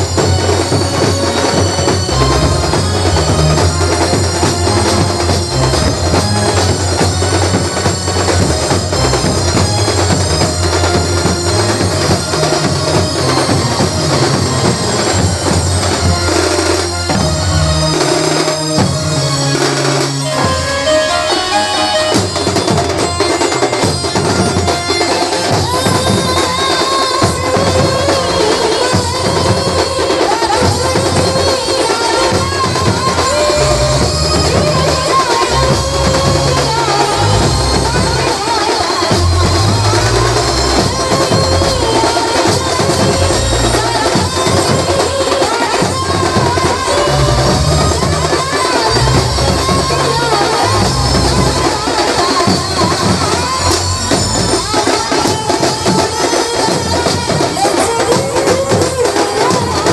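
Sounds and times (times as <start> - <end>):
loud drums and percussion: 0.0 - 59.9.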